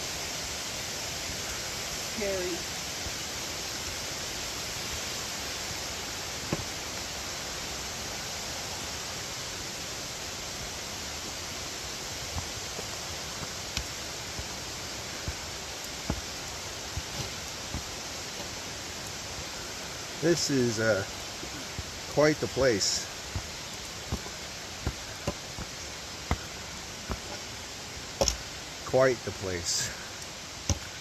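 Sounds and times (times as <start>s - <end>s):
creek and waterfall rushing: 0.0s - 31.0s.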